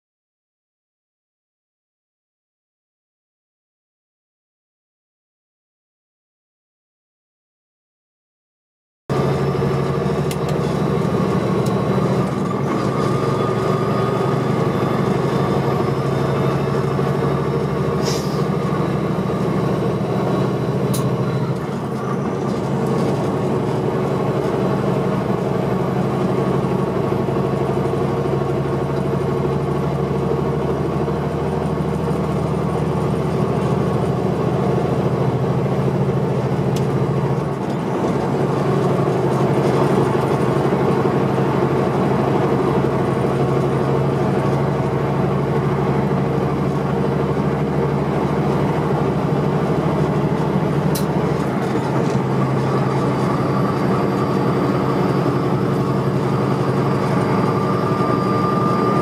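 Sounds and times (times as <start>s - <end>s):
road noise: 9.1s - 59.0s
truck diesel engine drone: 9.1s - 59.0s.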